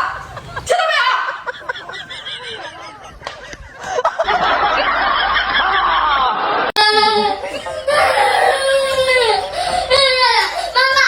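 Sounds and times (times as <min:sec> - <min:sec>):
snickering laughter: 0:01.3 - 0:10.7.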